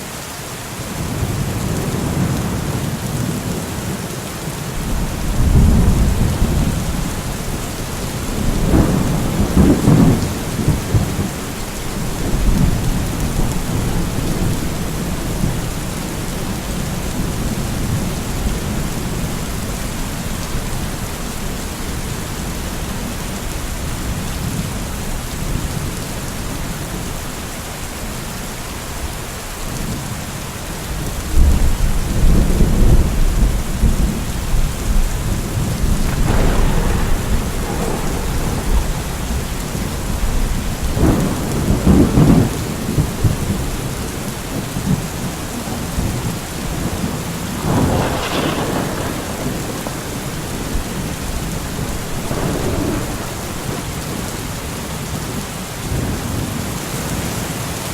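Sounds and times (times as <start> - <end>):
heavy rain: 0.0 - 57.9
thunder rumbling: 4.6 - 27.1, 30.9 - 56.5.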